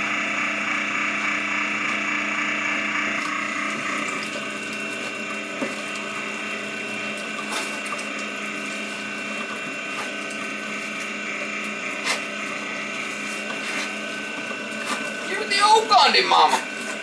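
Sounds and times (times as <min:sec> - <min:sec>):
electric meat grinder humming: 0:00.0 - 0:17.0.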